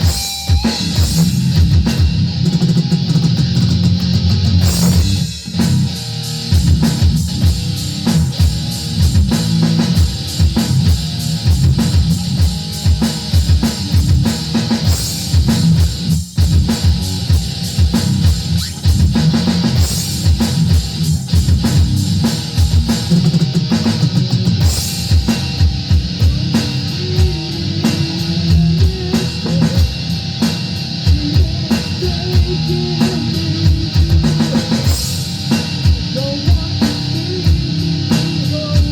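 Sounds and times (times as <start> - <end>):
fast drum beat: 0.0 - 38.9
rock music with electric guitar: 0.0 - 38.9.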